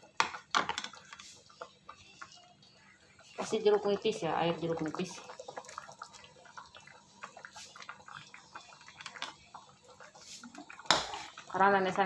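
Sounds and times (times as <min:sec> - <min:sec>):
soup simmering and bubbling: 0:00.0 - 0:12.0.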